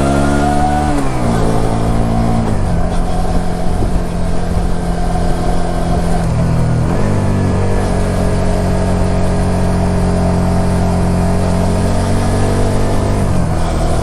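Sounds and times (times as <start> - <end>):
motorcycle engine under way: 0.0 - 14.0.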